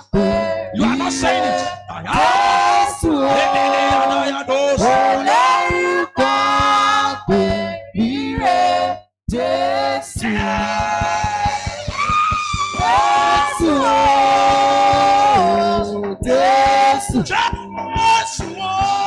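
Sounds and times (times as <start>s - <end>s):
person singing worship song: 0.0s - 19.0s.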